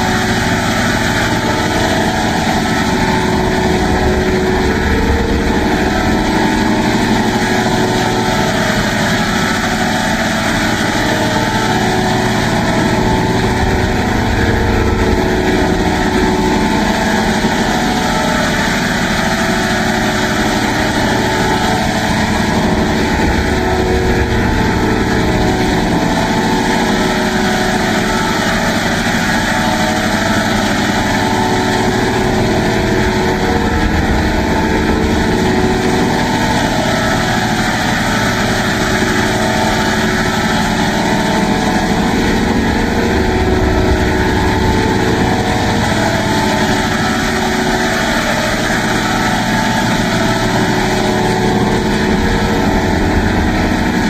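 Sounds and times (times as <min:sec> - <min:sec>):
buzzing phased drone: 0:00.0 - 0:54.0.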